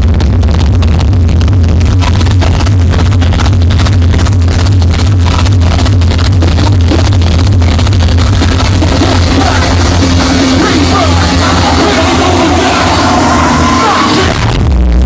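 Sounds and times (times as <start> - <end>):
loud distorted dance music: 0.0 - 15.0.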